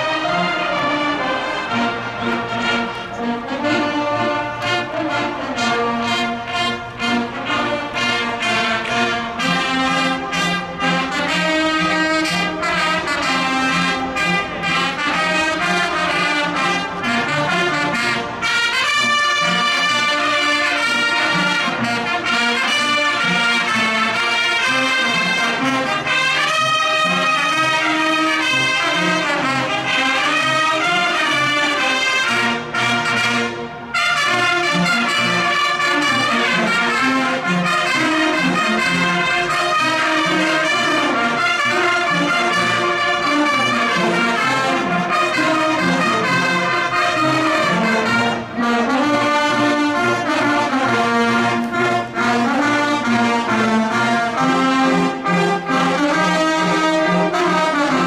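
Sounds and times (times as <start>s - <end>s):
brass band playing a march: 0.0s - 58.0s.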